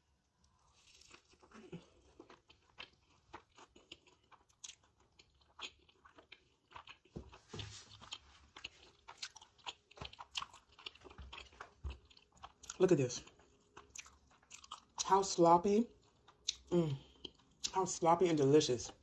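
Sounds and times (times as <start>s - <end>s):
person chewing crispy food: 0.2s - 18.0s.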